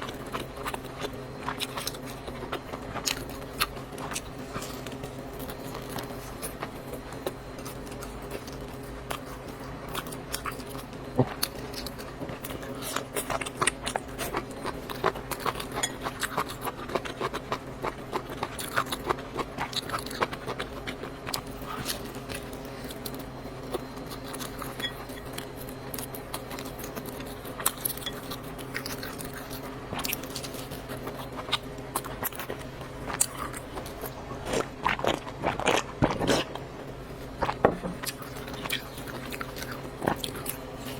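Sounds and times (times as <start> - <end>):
noodles being chewed: 0.0 - 40.9
steady low hum: 0.0 - 40.9.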